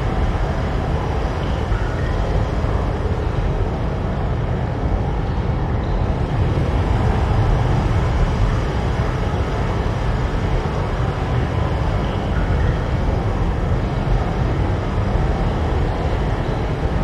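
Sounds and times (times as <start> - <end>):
storm wind rumble: 0.0 - 17.0.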